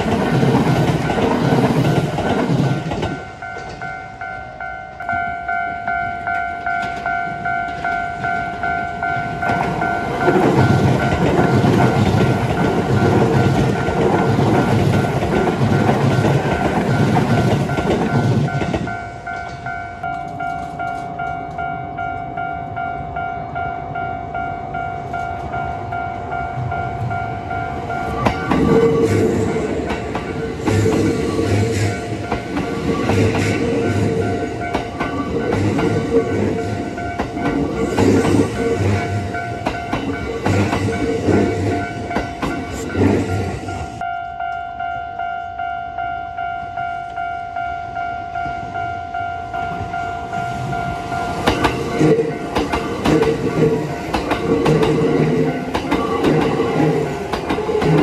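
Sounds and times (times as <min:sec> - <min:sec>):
train clickety-clack over rail joints: 0:00.0 - 0:21.7, 0:25.0 - 0:44.0, 0:48.4 - 0:58.0
electric train passing: 0:00.0 - 0:58.0
level crossing alarm ringing: 0:00.0 - 0:58.0.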